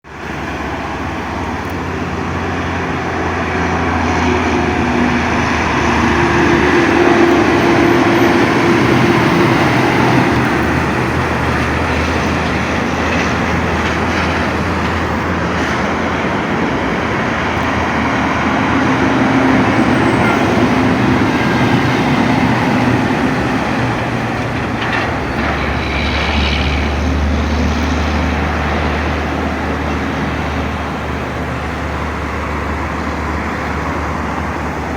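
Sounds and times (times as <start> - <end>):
heavy truck engine running: 0.0 - 34.9.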